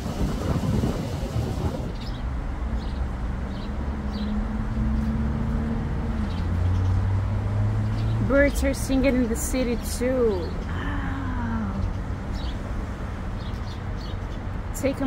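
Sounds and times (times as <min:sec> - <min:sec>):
city traffic engine hum: 0:00.0 - 0:15.0.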